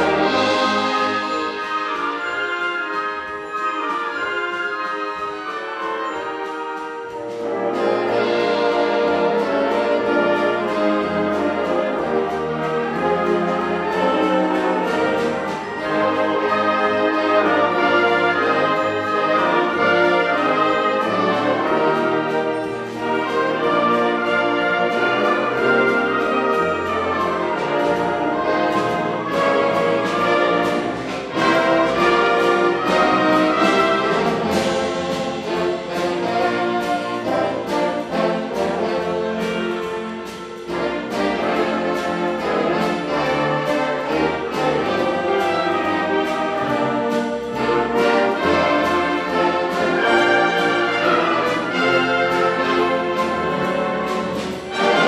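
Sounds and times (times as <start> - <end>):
wind band playing: 0.0 - 55.0.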